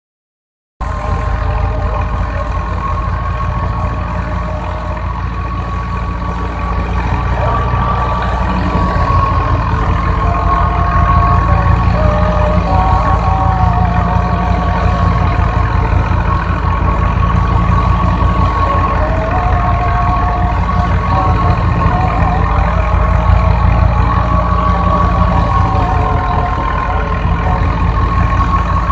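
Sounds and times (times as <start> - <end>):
steady high whine: 0.8 - 28.9
tractor diesel engine running: 0.8 - 28.9.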